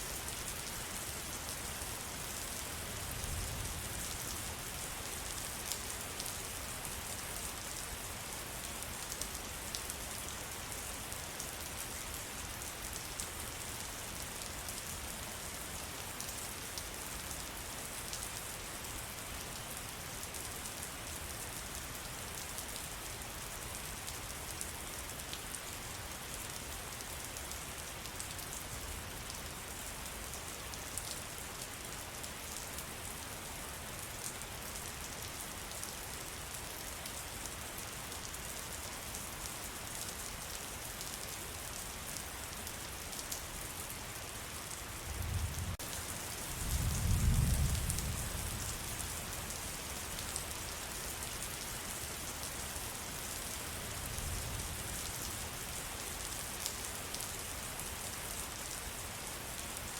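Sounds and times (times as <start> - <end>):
rain falling on forest: 0.0 - 59.9.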